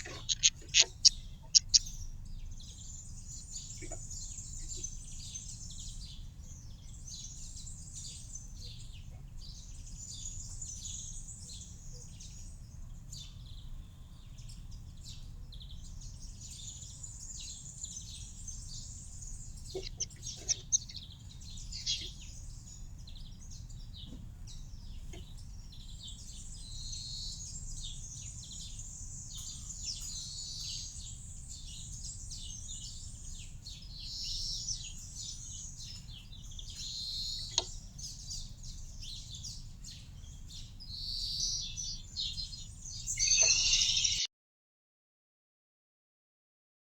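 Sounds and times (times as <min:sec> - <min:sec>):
small birds chirping and twittering: 0:00.0 - 0:44.3.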